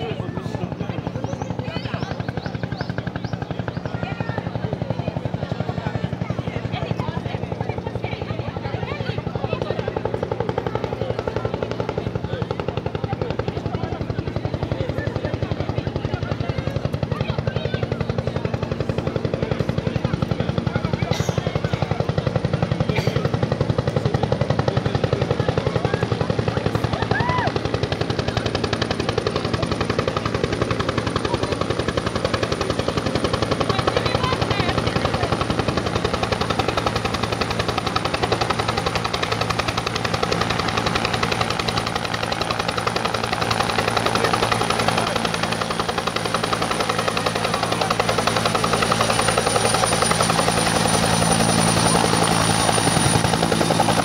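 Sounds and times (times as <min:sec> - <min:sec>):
helicopter rotor chopping: 0:00.0 - 0:54.0.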